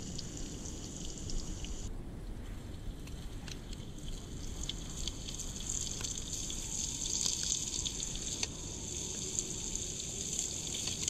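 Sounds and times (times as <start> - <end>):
campfire pops and crackles: 0.0 - 1.9, 3.0 - 11.0.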